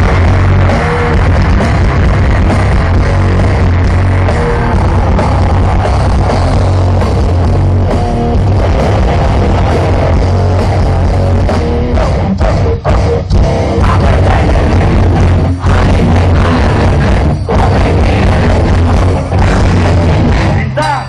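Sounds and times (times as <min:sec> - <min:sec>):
grindcore band playing live: 0:00.0 - 0:21.0.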